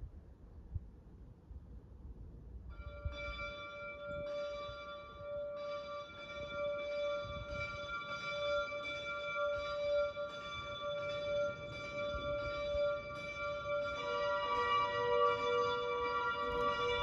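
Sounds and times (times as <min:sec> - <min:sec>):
church bells ringing: 0:02.8 - 0:17.0.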